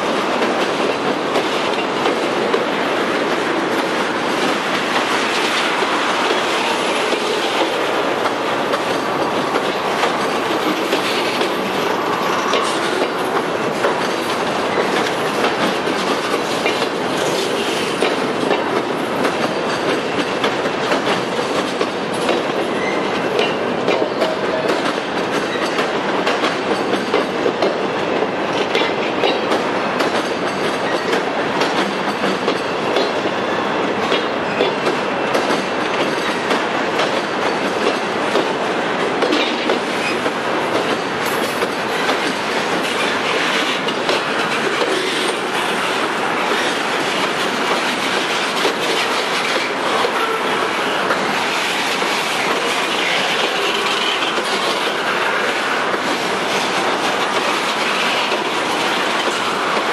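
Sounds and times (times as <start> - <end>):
clickety-clack over rail joints: 0.0 - 59.9
steel wheels rumbling on rails: 0.0 - 59.9.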